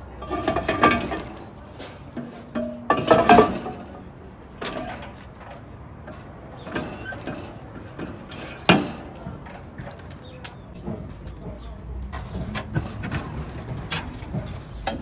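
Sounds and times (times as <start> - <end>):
metal clunks and scrapes: 0.0 - 15.0.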